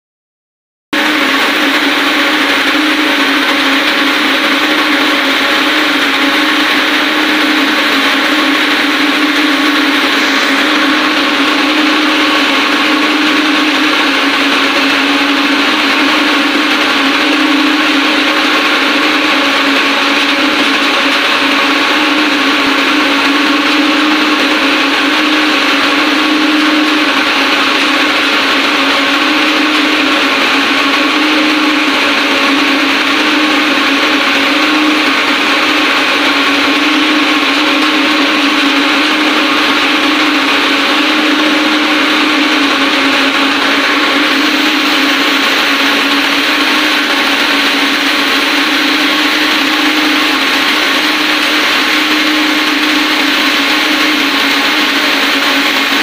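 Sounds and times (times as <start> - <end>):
spinning machines running: 1.0 - 56.0.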